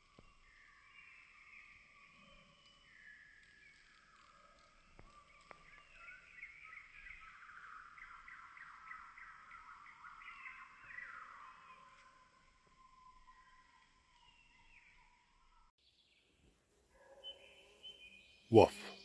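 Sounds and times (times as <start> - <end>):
songbirds chirping and trilling: 0.0 - 19.0.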